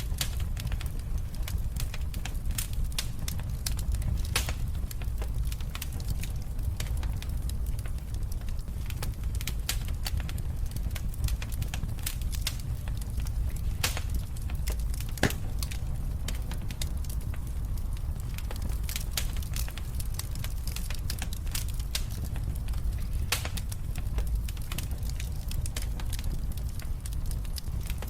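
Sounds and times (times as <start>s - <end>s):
low rumble of burning: 0.0s - 28.0s
wood fire crackling: 0.0s - 28.0s.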